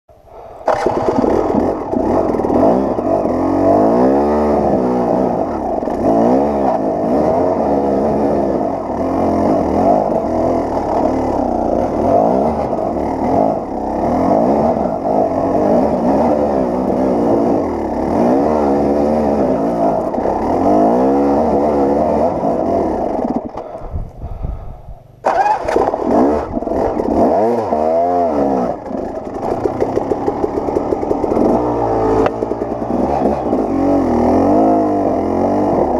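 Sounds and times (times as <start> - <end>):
dirt bike engine revving: 0.3 - 24.6, 25.2 - 35.9.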